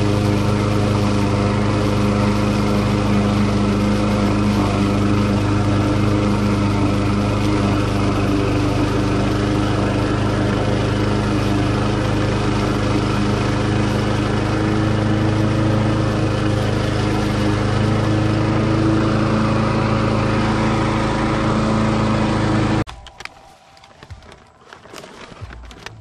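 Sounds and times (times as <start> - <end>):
lawn mower cutting grass: 0.0 - 26.0.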